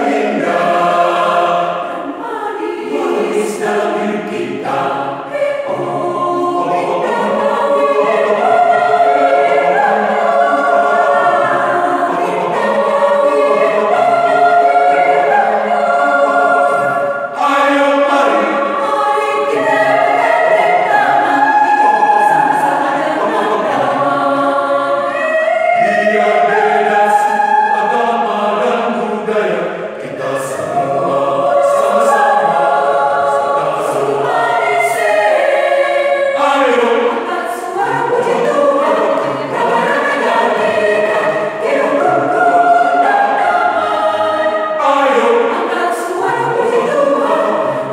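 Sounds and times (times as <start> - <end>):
mixed choir singing: 0.0 - 47.9.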